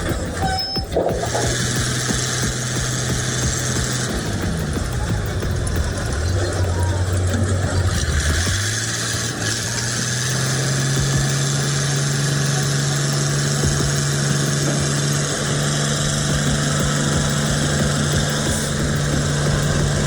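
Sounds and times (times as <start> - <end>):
heavy vehicle engine humming: 0.0 - 20.0.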